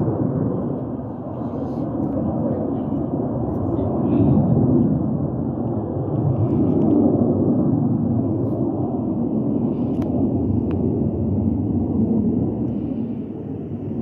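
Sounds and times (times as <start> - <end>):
distant jet aircraft rumble: 0.0 - 14.0.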